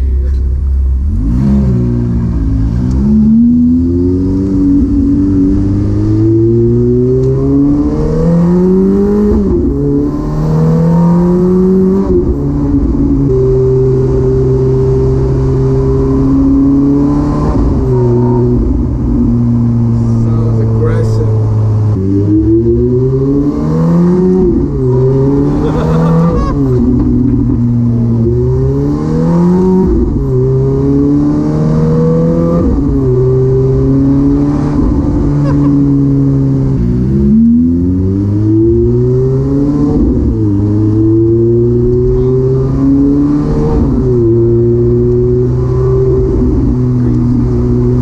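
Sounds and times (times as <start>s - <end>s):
car engine revving through gears: 0.0s - 48.0s.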